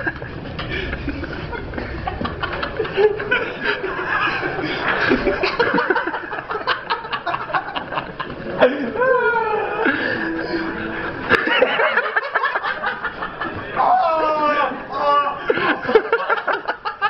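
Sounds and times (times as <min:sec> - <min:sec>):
people giggling: 0:00.0 - 0:13.8, 0:15.4 - 0:17.0.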